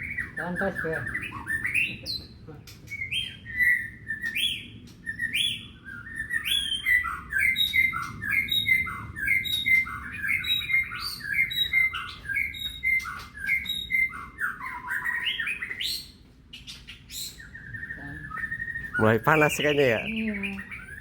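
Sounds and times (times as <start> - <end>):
bird singing whistled notes: 0.0 - 21.0.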